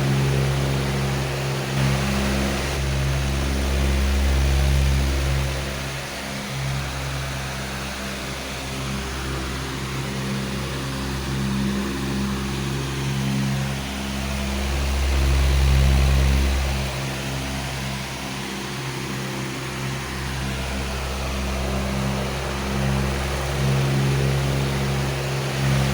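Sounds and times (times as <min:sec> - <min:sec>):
electric fan running: 0:00.0 - 0:25.9.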